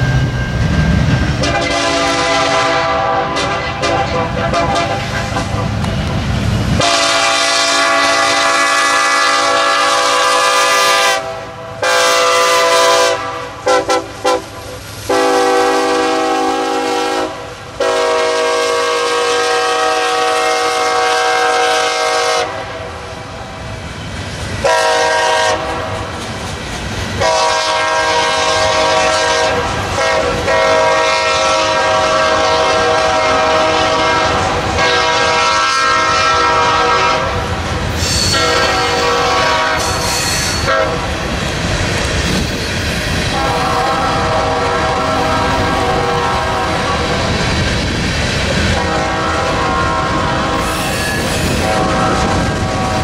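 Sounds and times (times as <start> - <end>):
passing train rumble: 0.0 - 53.0
locomotive air horn blasts: 1.4 - 5.6, 6.8 - 23.0, 24.6 - 26.1, 27.2 - 41.1, 43.3 - 47.3, 48.6 - 53.0.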